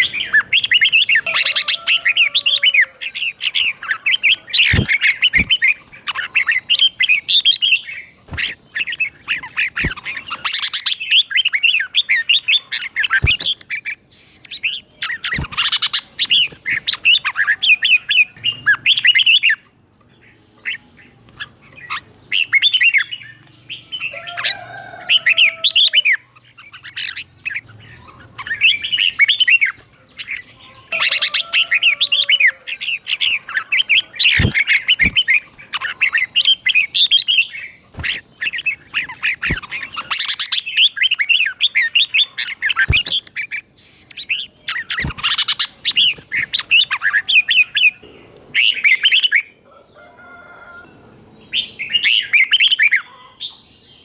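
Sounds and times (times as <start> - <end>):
bird singing chirpy phrases: 0.0 - 49.6, 50.8 - 54.0.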